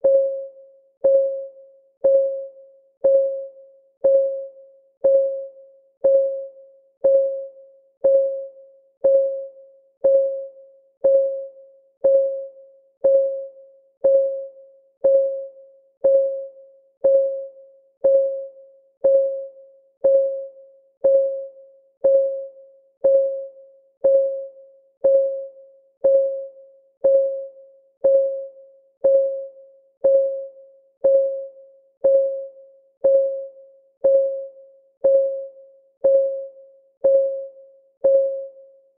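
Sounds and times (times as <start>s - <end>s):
countdown timer ticking: 2.0s - 2.4s, 3.0s - 4.4s, 5.0s - 10.4s, 11.0s - 38.6s.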